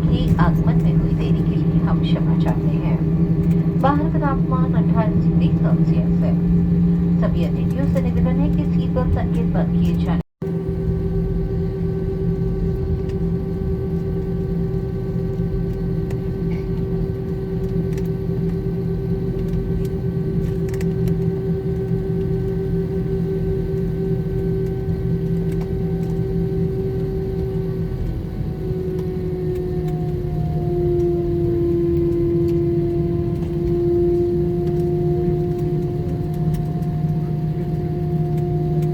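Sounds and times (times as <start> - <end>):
cabin low rumble: 0.0 - 38.9
jet engines whining at idle: 0.0 - 38.9.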